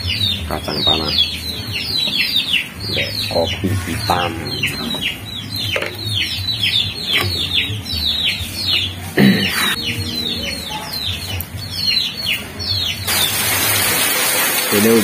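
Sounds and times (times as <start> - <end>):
chicks peeping: 0.0 - 13.5.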